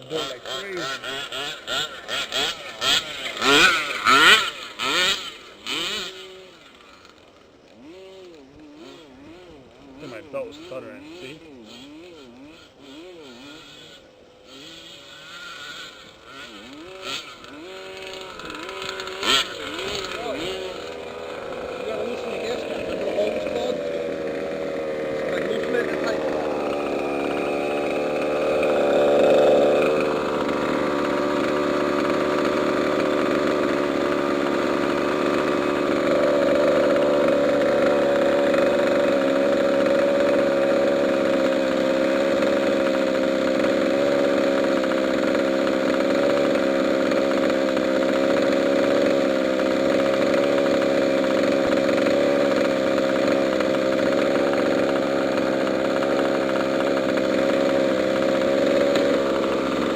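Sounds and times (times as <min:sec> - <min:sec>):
small two-stroke engine idling: 0:00.0 - 0:59.9.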